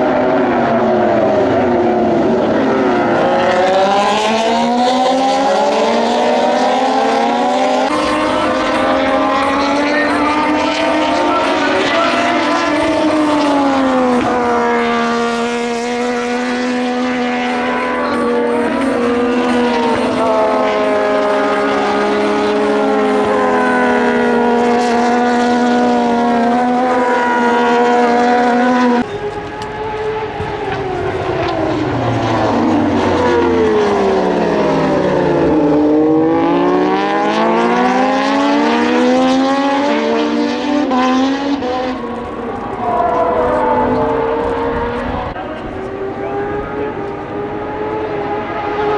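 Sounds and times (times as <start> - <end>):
racing motorcycle engines: 0.0 - 48.9.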